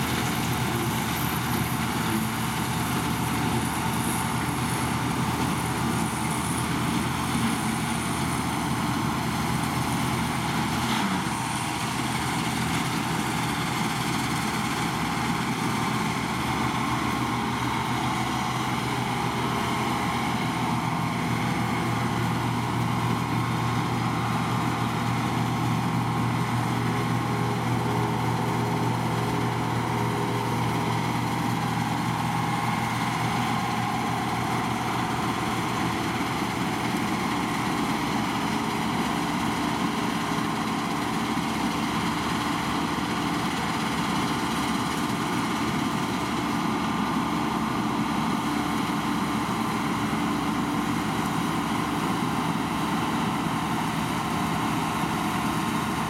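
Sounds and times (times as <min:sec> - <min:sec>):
combine harvester engine droning: 0:00.0 - 0:56.0.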